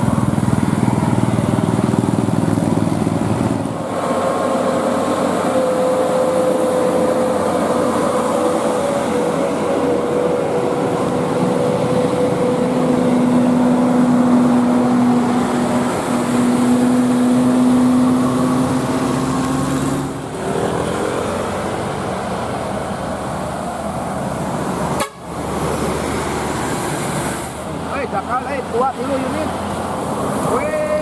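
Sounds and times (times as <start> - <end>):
vehicle engines in traffic: 0.0 - 31.0.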